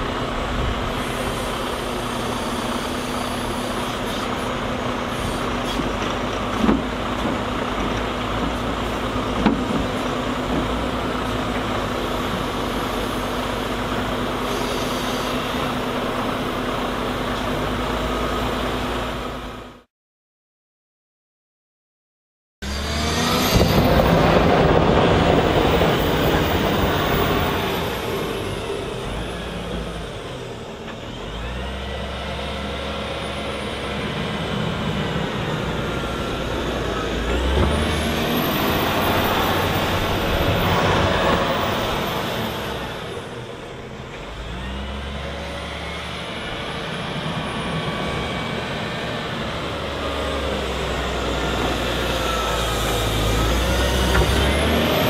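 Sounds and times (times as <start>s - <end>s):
diesel engine revving: 0.0s - 19.9s, 22.6s - 55.0s.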